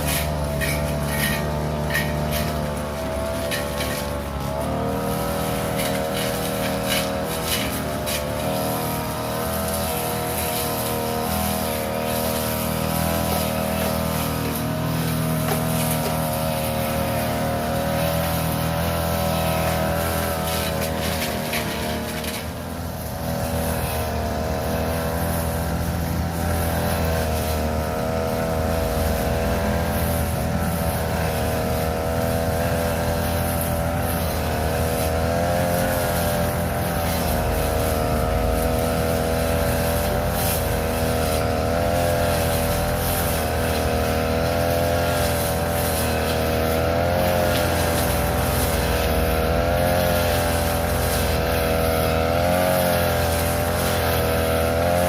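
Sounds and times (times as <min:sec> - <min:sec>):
grass cutter engine running: 0:00.0 - 0:55.0.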